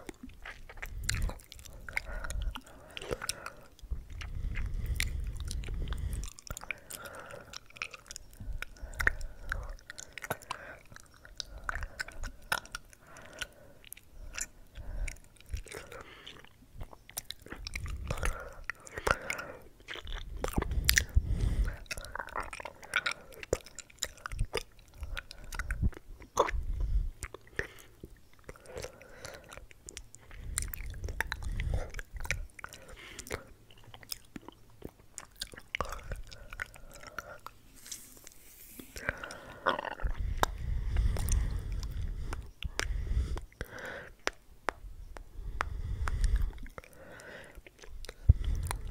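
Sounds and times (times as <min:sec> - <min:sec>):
wet mouth clicks and smacks: 0:00.0 - 0:48.9.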